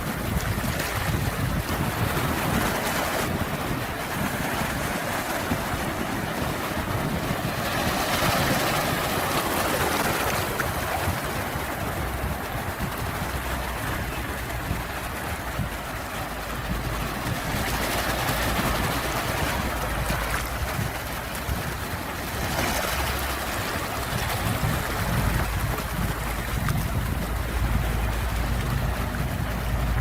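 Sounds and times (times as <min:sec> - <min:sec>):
low rumble of the sea: 0:00.0 - 0:30.0
sea waves washing in: 0:00.0 - 0:30.0.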